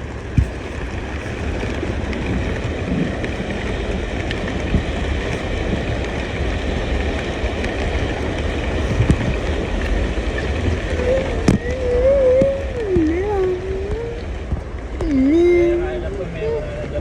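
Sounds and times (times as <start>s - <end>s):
heavy rain: 0.0s - 17.0s
vehicle driving through water: 0.0s - 17.0s.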